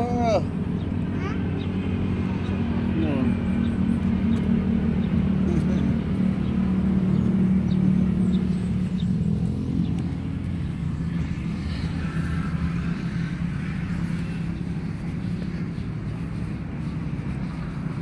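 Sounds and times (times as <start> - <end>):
road traffic rumble: 0.0 - 18.0
vehicle engine hum passing: 0.0 - 18.0.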